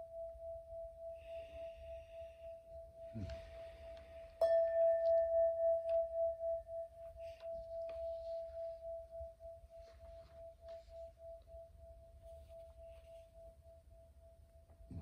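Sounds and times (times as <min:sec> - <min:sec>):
singing bowl struck: 0:00.0 - 0:13.0
singing bowl ringing: 0:00.0 - 0:15.0.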